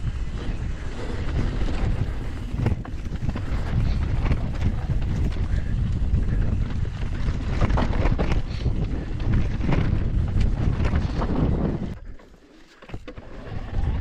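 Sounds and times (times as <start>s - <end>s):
wind buffeting microphone: 0.0s - 12.2s, 12.9s - 14.0s
bike knocks and rattles: 0.0s - 13.2s
bike tyre rumble on dirt: 0.0s - 14.0s.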